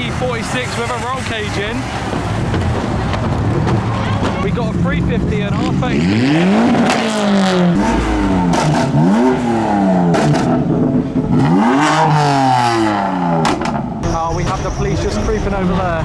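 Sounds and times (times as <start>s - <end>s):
car engine revving: 0.0s - 16.0s
exhaust cracks: 0.0s - 16.0s.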